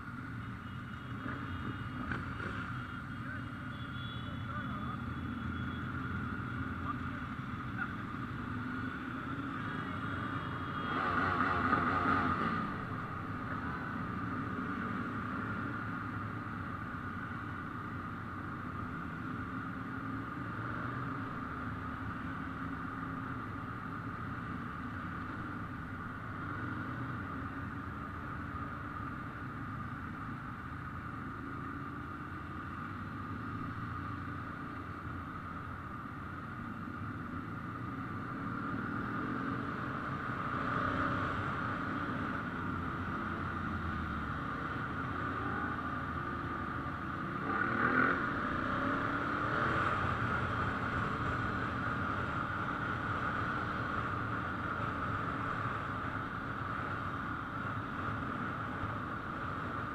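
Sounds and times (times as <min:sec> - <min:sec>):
motorcycle engines rumbling: 0:00.0 - 0:59.9.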